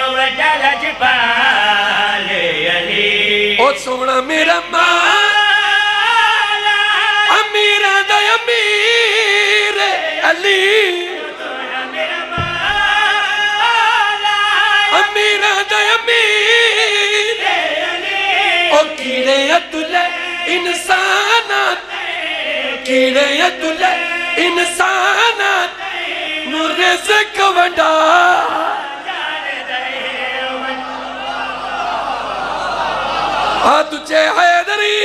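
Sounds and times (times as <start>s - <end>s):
men singing through microphones: 0.0s - 31.9s, 33.5s - 35.0s.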